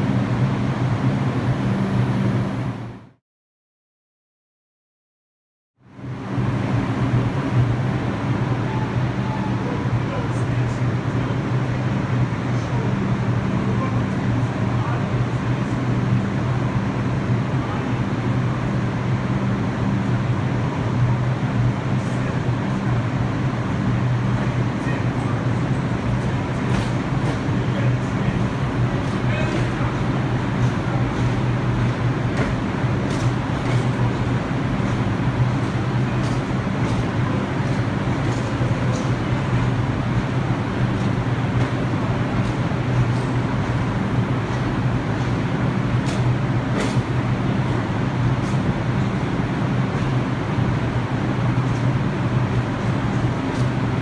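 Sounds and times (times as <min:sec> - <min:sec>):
subway train rumbling: 0:00.0 - 0:03.2, 0:05.9 - 0:54.0.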